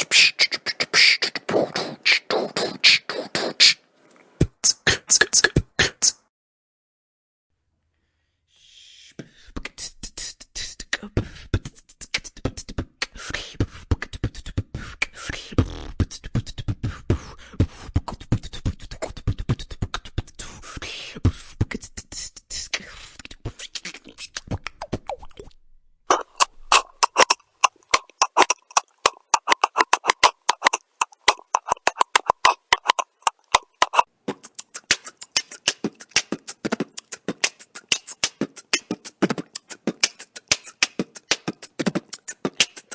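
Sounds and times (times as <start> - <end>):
beatboxing kick and snare: 0.0 - 3.8, 4.4 - 6.3, 9.5 - 25.2, 26.1 - 42.9
beatboxing clicking beat: 0.0 - 6.3, 9.0 - 42.9.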